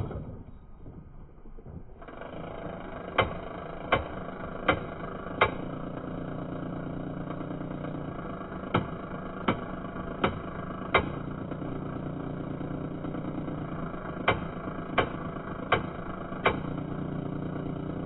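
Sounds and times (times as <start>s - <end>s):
small motor running: 1.9s - 18.0s.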